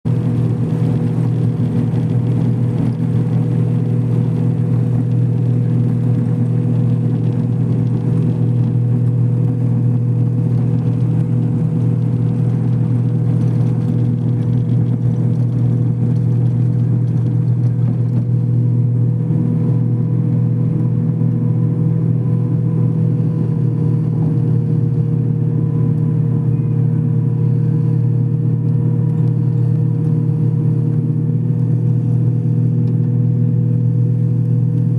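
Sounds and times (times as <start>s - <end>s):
engine and airflow drone: 0.0s - 34.9s
constant hum: 0.1s - 34.9s.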